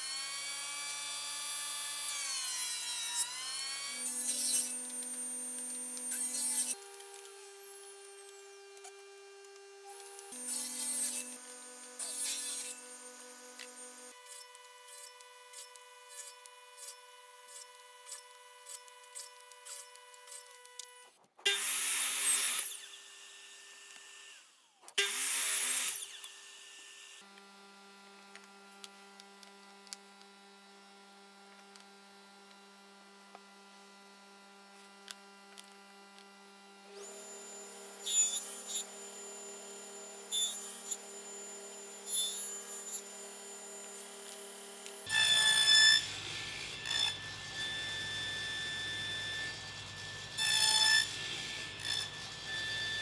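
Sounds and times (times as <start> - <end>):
table saw cutting wood: 0.0 - 53.0.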